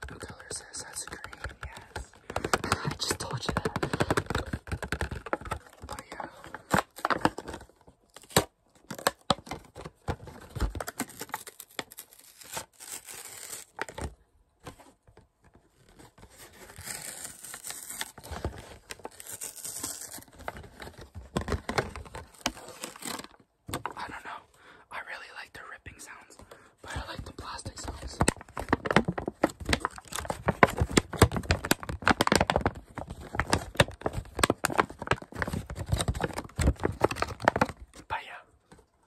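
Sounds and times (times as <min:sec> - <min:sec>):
plastic packaging crackling: 0:00.0 - 0:09.8, 0:10.4 - 0:14.1, 0:15.7 - 0:23.4, 0:26.9 - 0:38.1.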